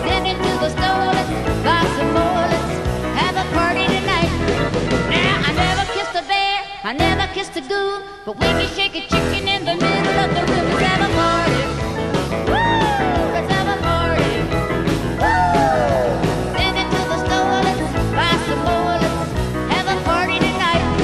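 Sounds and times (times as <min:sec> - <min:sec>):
rock band playing live: 0:00.0 - 0:07.4, 0:08.4 - 0:21.0
woman singing: 0:00.0 - 0:11.8, 0:12.5 - 0:14.5, 0:15.2 - 0:21.0.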